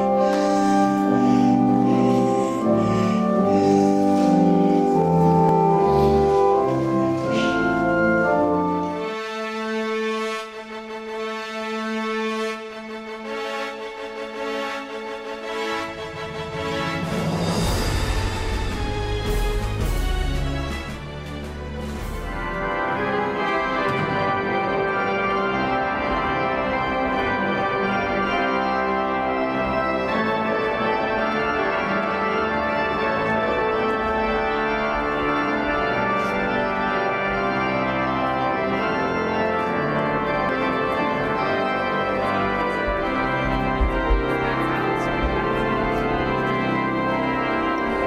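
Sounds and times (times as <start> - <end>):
pipe organ playing chords: 0.0 - 48.0.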